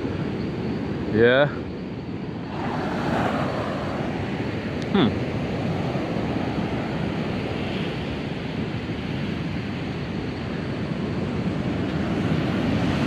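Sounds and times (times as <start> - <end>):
ocean surf breaking: 2.2 - 13.0.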